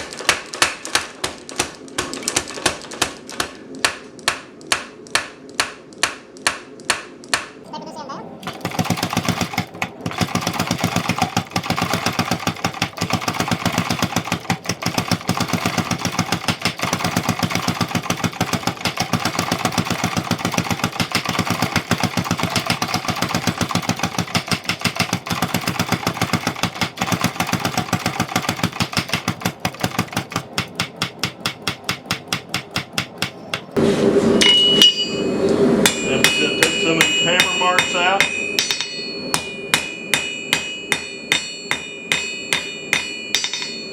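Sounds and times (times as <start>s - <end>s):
anvil ringing: 8.4s - 43.9s
hammer striking steel on anvil: 8.4s - 43.9s.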